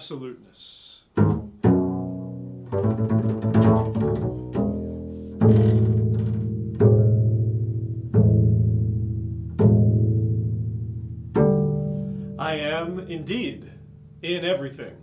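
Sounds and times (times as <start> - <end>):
double bass plucked notes: 1.1 - 15.0.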